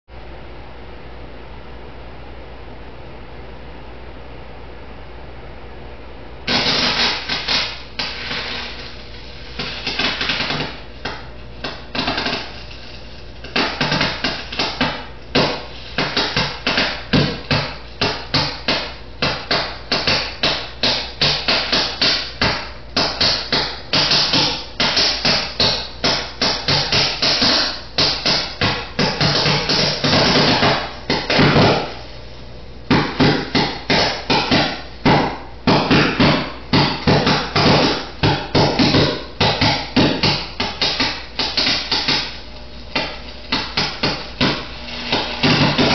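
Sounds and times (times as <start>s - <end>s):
burning cord popping and crackling: 6.5s - 45.9s.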